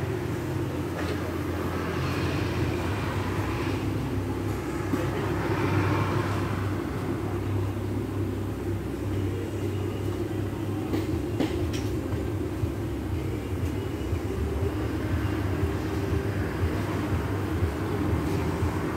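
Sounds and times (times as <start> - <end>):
low machine hum: 0.0 - 18.9.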